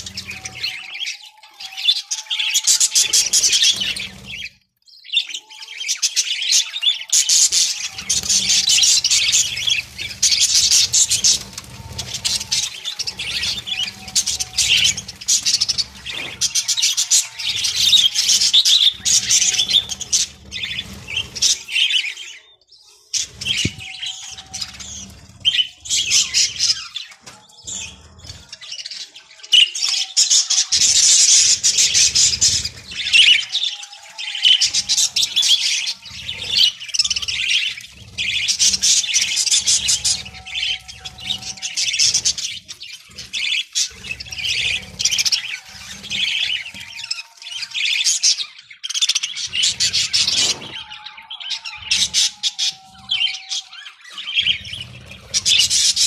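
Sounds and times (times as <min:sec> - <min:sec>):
budgerigars chattering and chirping: 0:00.0 - 0:56.0.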